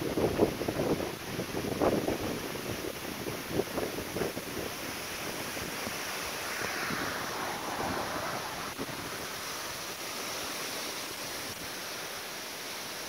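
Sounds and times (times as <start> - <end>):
wind gusting through trees: 0.0 - 13.0.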